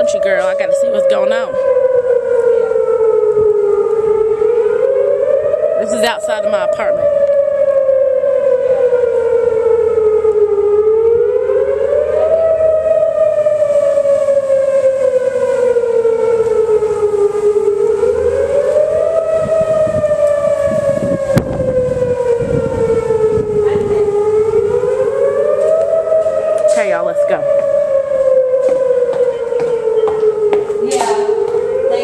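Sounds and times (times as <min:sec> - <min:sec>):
tornado warning siren wailing: 0:00.0 - 0:32.0.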